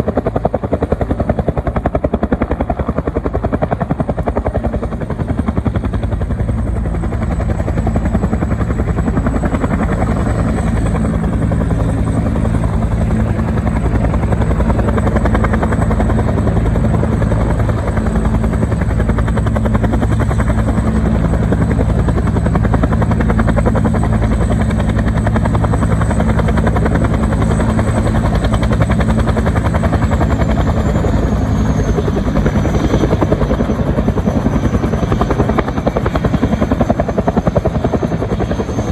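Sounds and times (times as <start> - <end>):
helicopter rotor chopping: 0.0 - 38.9
high turbine whine: 4.0 - 38.9.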